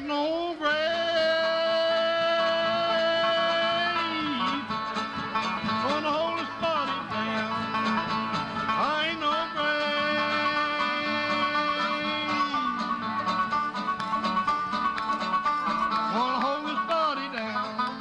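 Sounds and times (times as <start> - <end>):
acoustic bluegrass band: 0.0 - 18.0.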